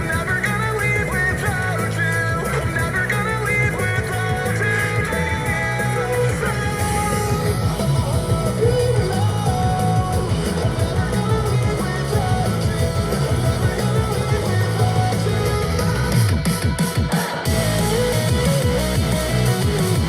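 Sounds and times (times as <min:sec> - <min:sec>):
pop-rock song on speaker: 0:00.0 - 0:20.0.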